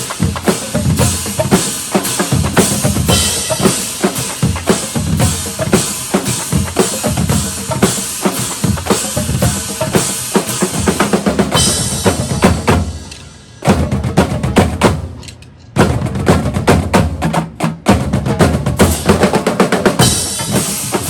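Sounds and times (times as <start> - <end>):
drum kit and drumline playing: 0.0 - 21.0.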